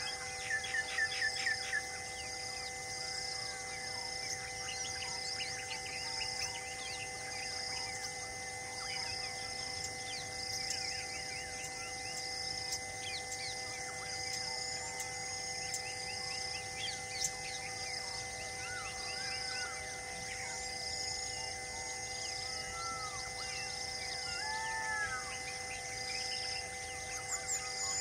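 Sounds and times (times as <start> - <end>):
high insect drone: 0.0 - 28.0
humming tones: 0.0 - 28.0
pulsing insect call: 0.0 - 28.0.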